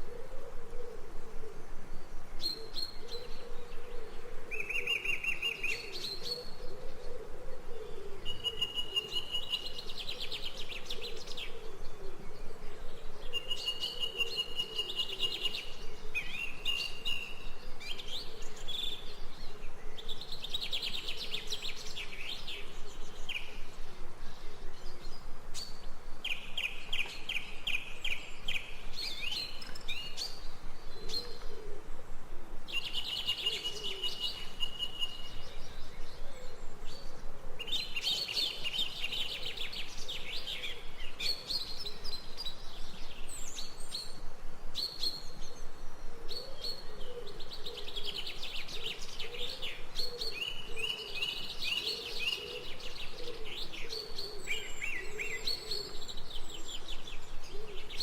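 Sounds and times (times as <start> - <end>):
songbirds chirping and singing: 1.8 - 58.0.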